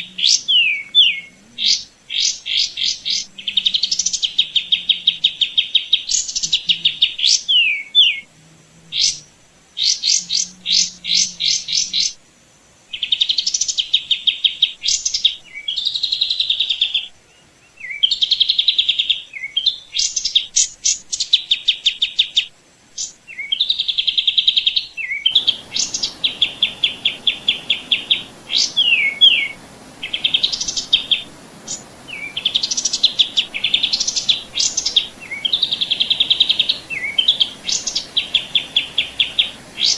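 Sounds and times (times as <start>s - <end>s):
faint steady hiss: 0.0s - 39.9s
songbird chirps and trills: 0.0s - 39.9s.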